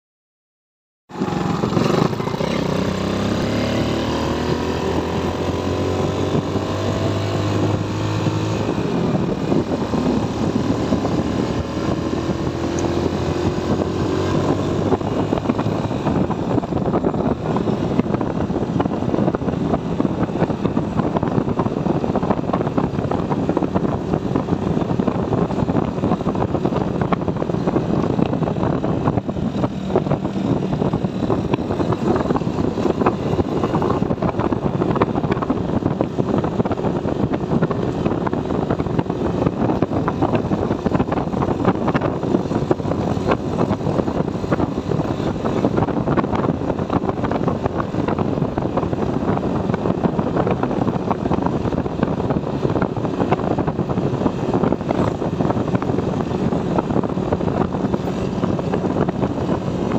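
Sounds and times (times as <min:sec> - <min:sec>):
scooter engine accelerating: 0:01.1 - 0:59.9
wind and road rushing noise: 0:01.1 - 0:59.9.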